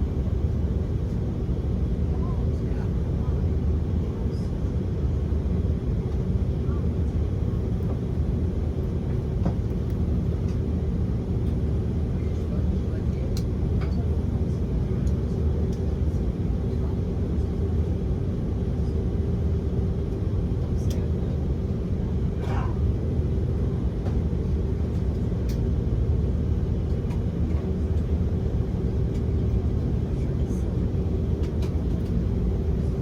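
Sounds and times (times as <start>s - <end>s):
airliner cabin rumble: 0.0s - 33.0s.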